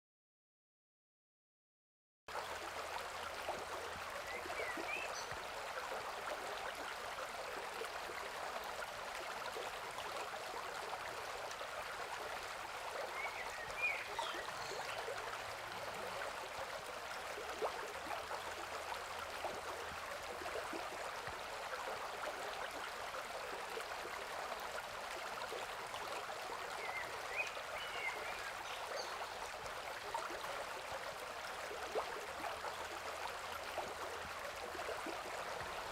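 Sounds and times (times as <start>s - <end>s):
river water rushing: 2.4s - 35.9s.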